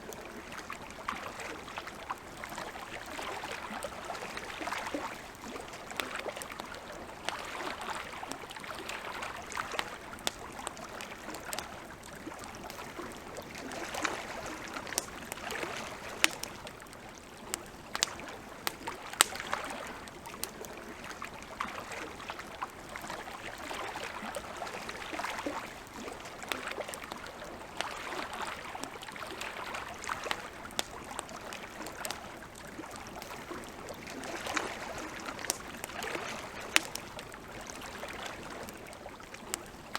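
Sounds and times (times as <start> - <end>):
campfire crackling and popping: 0.0 - 39.9
lake water lapping: 0.0 - 39.9.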